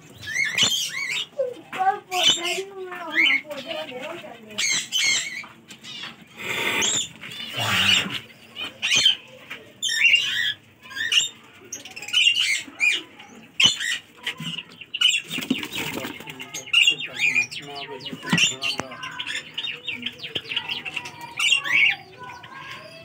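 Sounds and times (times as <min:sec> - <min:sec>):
parrots chirping and squawking: 0:00.0 - 0:23.0.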